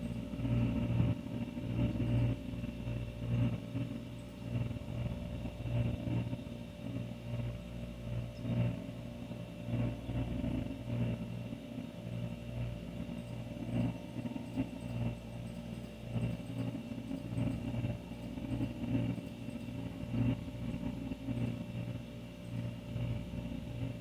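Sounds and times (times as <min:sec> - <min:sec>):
refrigerator compressor humming: 0:00.0 - 0:24.0.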